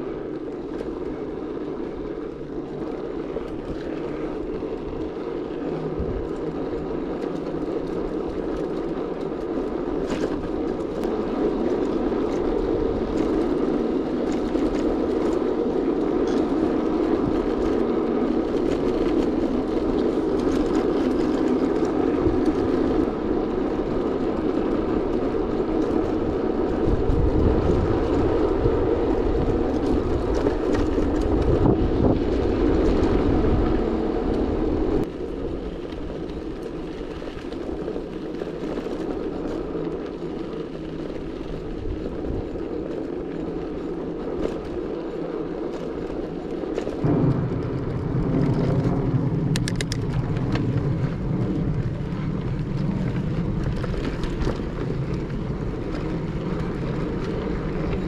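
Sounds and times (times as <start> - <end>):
road noise: 0.0 - 58.0
rushing wind: 0.0 - 58.0.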